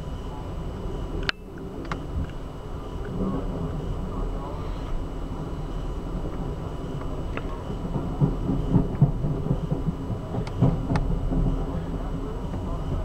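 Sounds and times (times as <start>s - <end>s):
train car low rumble: 0.0s - 13.0s.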